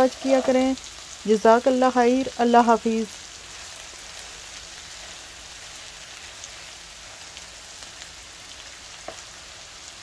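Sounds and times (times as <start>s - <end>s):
spatula stirring food: 0.0s - 1.0s, 2.6s - 9.8s
food sizzling in a pan: 0.0s - 10.0s.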